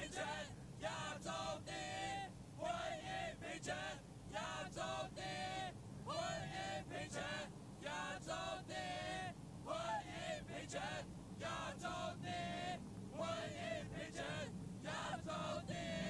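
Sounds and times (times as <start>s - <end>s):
crowd chanting: 0.0s - 16.0s
low crowd noise: 0.0s - 16.0s.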